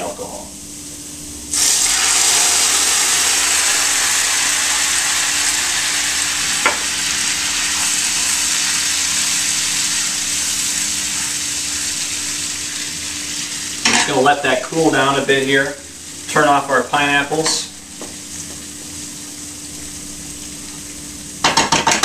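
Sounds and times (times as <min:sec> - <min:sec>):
sauce sizzling in a pan: 0:00.8 - 0:21.6.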